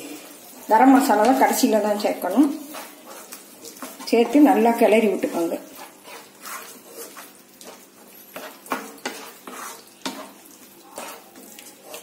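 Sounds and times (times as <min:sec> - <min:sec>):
pan sizzling: 0:00.0 - 0:12.0
spoon stirring and scraping gravy: 0:00.0 - 0:12.0.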